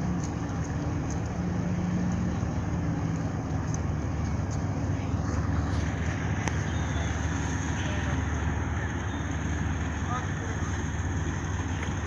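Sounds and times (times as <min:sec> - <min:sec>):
low engine hum: 0:00.0 - 0:12.0
outdoor background noise: 0:00.0 - 0:12.0.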